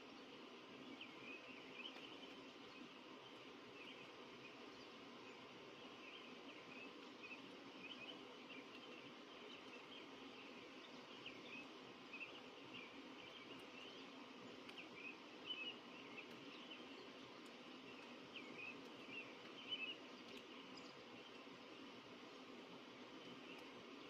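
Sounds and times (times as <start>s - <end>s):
birds chirping faintly: 0.0s - 24.0s
low background hiss: 0.0s - 24.0s.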